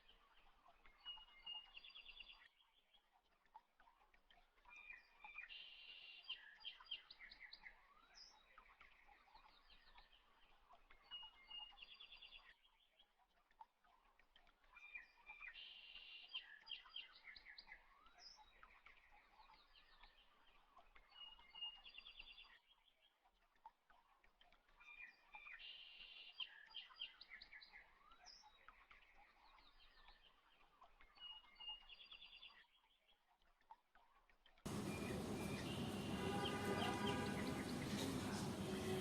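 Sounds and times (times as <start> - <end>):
bird-like chirps and trills: 0.0 - 33.7, 34.7 - 39.0.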